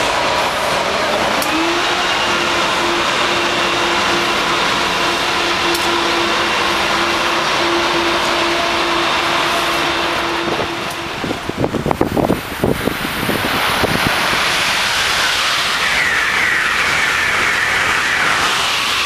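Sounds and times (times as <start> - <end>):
electric locomotive whirring rush: 0.0 - 19.0.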